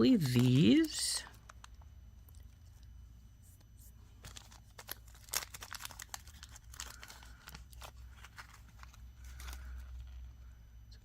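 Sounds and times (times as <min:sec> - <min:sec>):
plastic packet crinkling and tearing: 0:00.1 - 0:02.9, 0:04.2 - 0:10.3.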